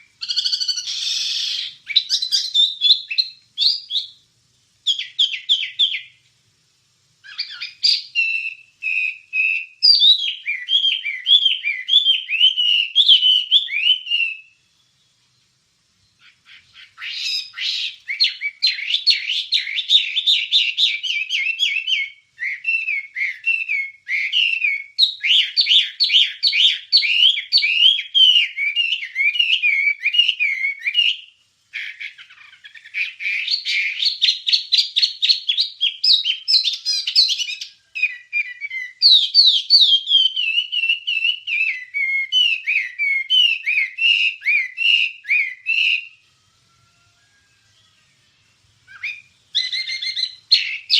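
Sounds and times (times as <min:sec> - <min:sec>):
songbird singing rapid chirps: 0:00.0 - 0:50.9.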